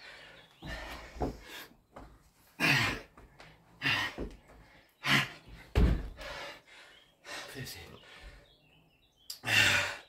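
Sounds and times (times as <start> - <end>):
man breathing heavily: 0.0 - 10.0.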